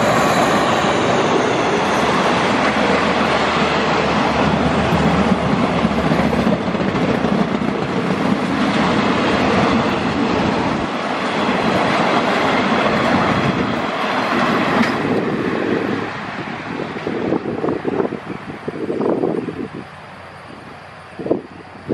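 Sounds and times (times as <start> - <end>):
train wheels rushing on rails: 0.0 - 21.9.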